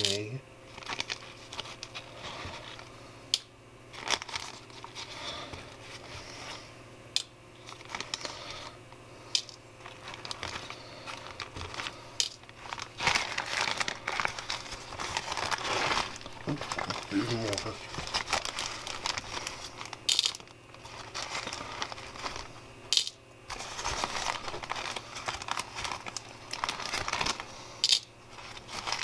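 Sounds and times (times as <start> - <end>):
plastic bag crinkling: 0.0 - 3.0, 3.9 - 6.6, 7.6 - 8.8, 9.4 - 29.0.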